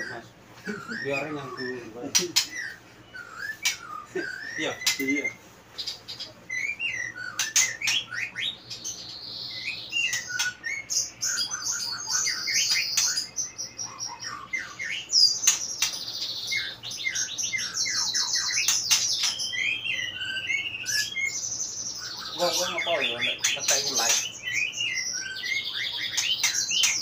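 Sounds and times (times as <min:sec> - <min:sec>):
bird singing varied song: 0:00.0 - 0:27.0.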